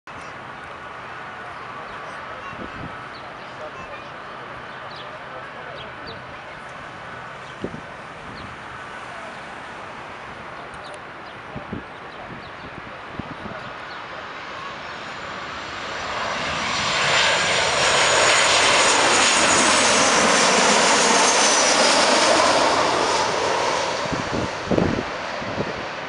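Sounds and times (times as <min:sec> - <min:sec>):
jet passing low overhead: 0:00.3 - 0:26.0.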